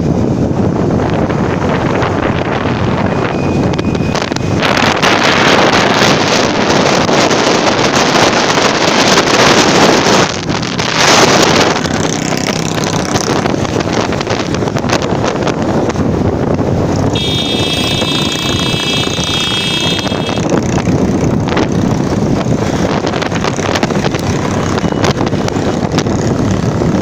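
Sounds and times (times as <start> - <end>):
road noise: 0.0 - 27.0
wind rushing over microphone: 0.0 - 27.0
motorcycle engine running: 1.0 - 16.2, 16.8 - 27.0.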